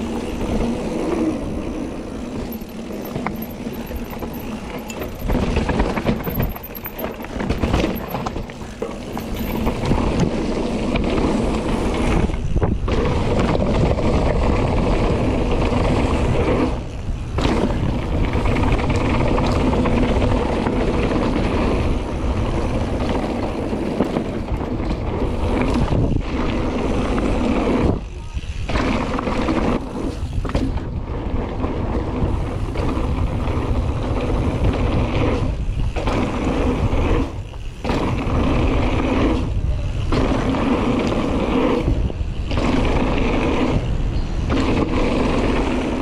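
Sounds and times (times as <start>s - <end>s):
bike tyres rolling and rattling: 0.0s - 46.0s.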